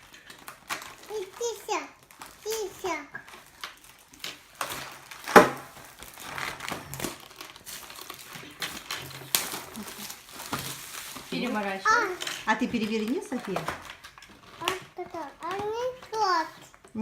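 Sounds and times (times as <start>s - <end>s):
foil wrapper crinkling: 0.0s - 17.0s.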